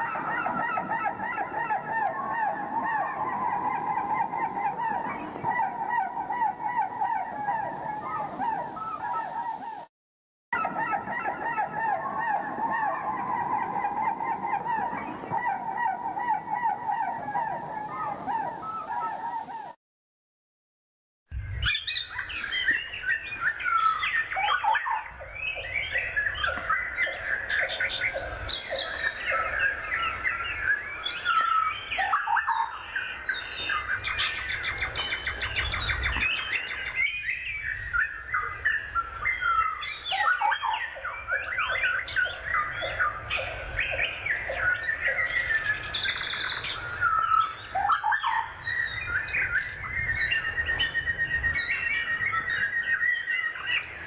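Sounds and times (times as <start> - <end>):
birds singing and chirping: 0.0 - 9.8, 10.6 - 19.8, 21.4 - 54.0.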